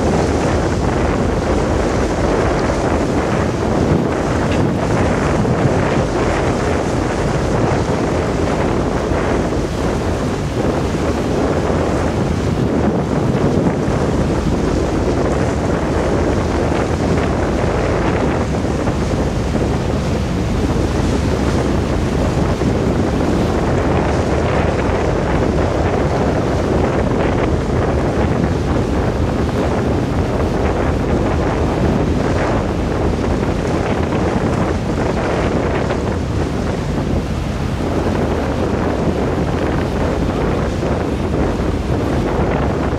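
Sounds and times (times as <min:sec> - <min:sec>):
rushing water: 0:00.0 - 0:42.9
ship engine low rumble: 0:00.0 - 0:42.9
wind buffeting microphone: 0:00.0 - 0:42.9.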